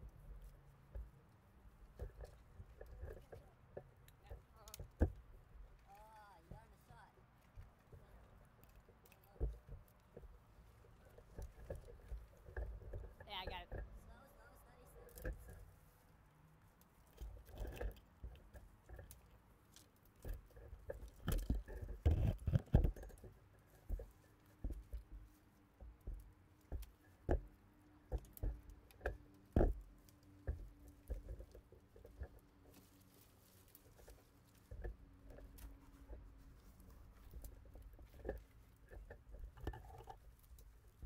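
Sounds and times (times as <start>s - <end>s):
branches rustling and scraping: 0.0s - 41.0s
camera bumping against twigs: 1.8s - 16.2s, 16.8s - 41.0s.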